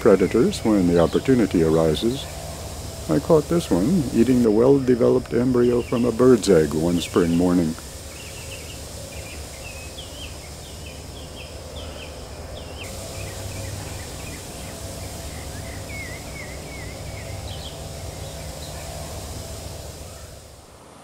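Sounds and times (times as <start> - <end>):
low background rumble: 0.0 - 20.7
small birds chirping: 0.0 - 20.7.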